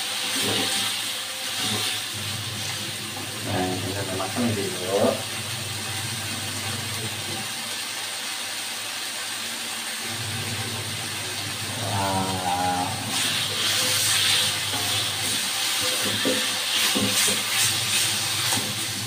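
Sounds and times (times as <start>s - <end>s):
paste sizzling in a wok: 0.0s - 10.2s, 10.9s - 19.0s.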